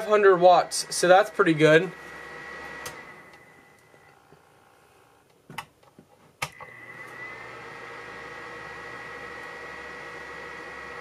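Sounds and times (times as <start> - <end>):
electric fan heater whining: 0.0 - 5.3, 6.4 - 11.0.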